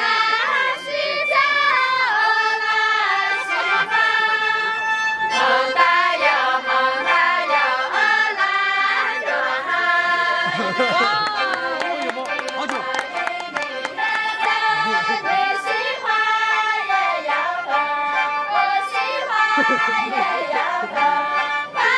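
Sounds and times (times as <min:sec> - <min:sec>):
women singing together: 0:00.0 - 0:04.7, 0:05.3 - 0:12.0, 0:12.6 - 0:21.9.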